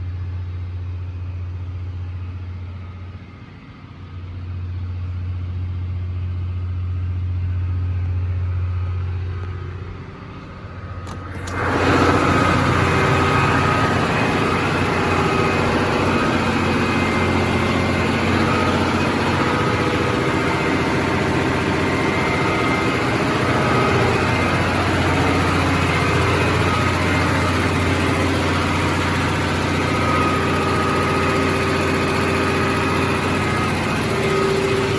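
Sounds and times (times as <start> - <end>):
engine room machinery droning: 0.0 - 34.9.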